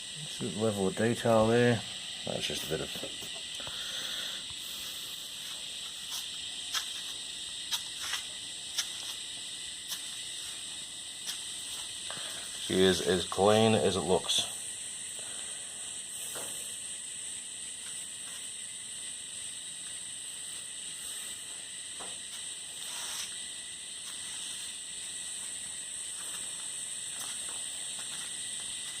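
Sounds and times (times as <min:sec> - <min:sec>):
high-pitched hiss: 0:00.0 - 0:29.0.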